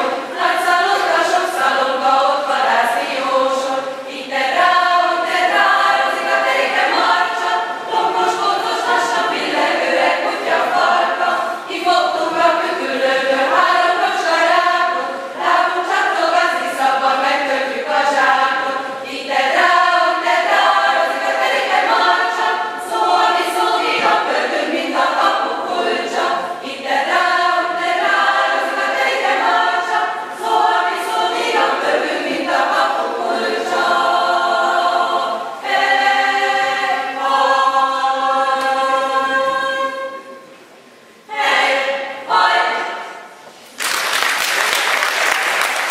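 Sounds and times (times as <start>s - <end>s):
women's choir singing a cappella: 0.0s - 43.6s.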